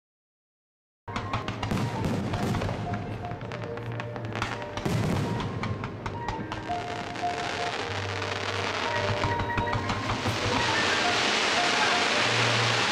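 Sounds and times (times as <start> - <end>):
fireworks bursting and crackling: 1.1 - 12.9
music playing: 1.1 - 12.9.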